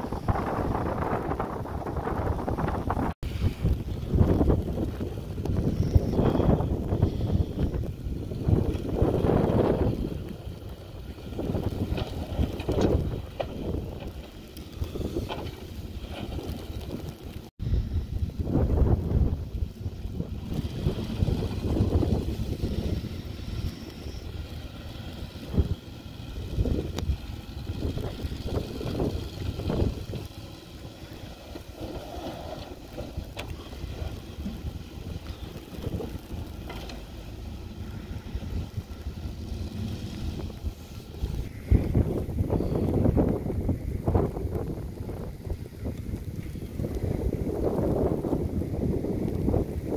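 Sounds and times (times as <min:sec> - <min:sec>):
gusty wind buffeting microphone: 0:00.0 - 0:49.9.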